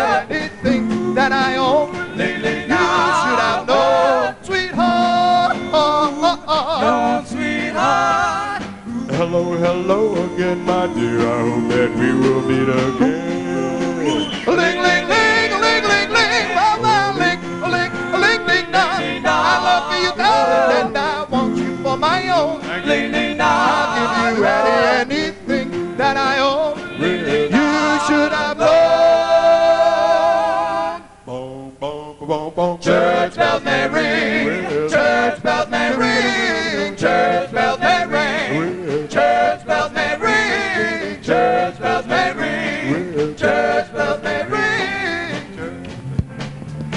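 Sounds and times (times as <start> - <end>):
vocal group singing in harmony: 0.0 - 46.0.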